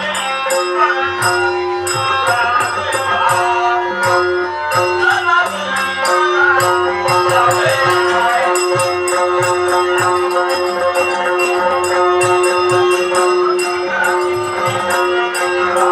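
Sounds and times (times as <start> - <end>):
drum beats: 0.0 - 15.9.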